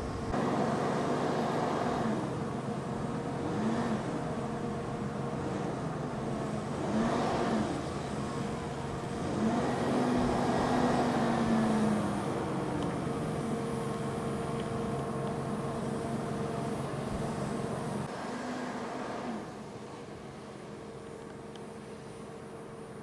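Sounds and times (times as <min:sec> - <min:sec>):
crane engine revving: 0:00.0 - 0:23.0.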